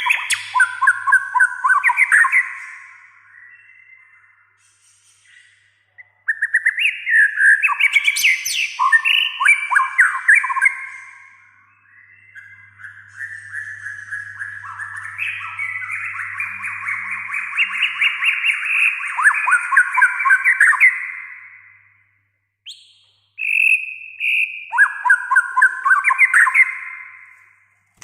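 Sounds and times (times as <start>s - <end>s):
songbird singing rapid phrases: 0.0s - 21.8s, 22.6s - 27.3s.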